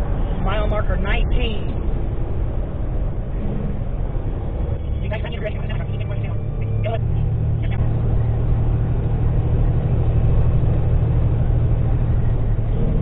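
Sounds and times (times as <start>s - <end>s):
truck engine and road drone: 0.0s - 13.0s.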